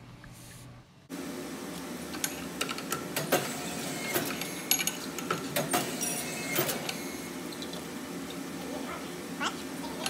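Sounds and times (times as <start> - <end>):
honing machine hum: 1.1 - 10.0.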